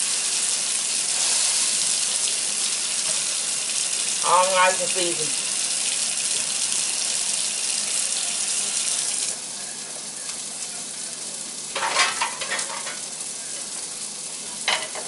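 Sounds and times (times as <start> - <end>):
fat sizzling in a skillet: 0.0 - 15.0
water running from tap: 0.0 - 15.0.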